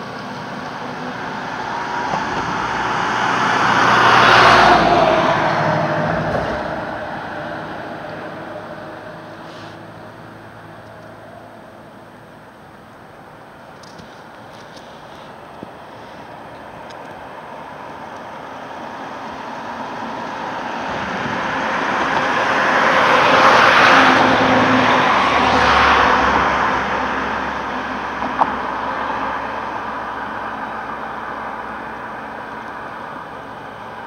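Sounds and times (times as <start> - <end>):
vehicle passing by rushing: 0.0 - 11.6, 15.0 - 34.0
low engine hum: 0.0 - 34.0.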